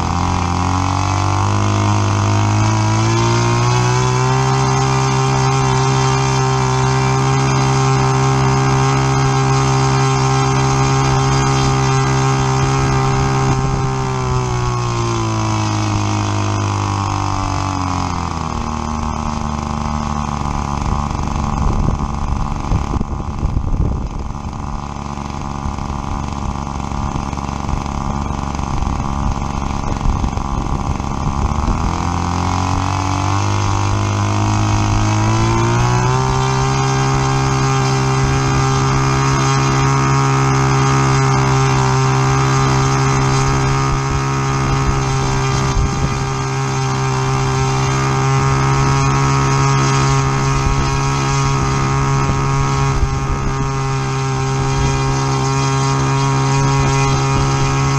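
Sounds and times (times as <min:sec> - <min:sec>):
model airplane engine running: 0:00.0 - 0:57.9.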